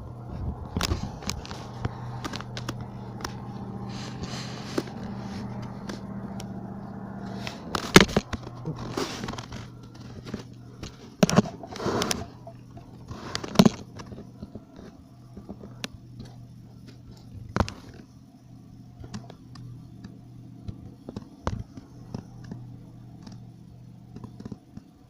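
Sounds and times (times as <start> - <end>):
steady low two-tone hum: 0.0 - 25.0.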